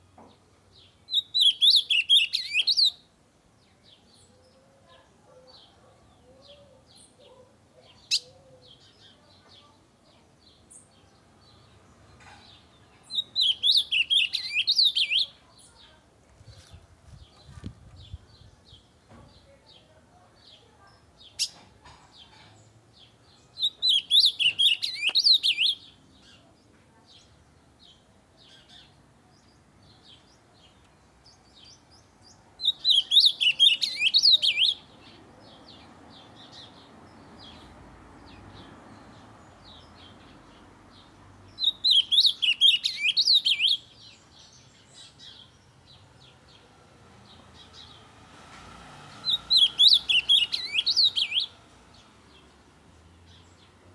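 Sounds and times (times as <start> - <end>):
bird singing warbled song: 0.0 - 48.3, 48.9 - 53.9.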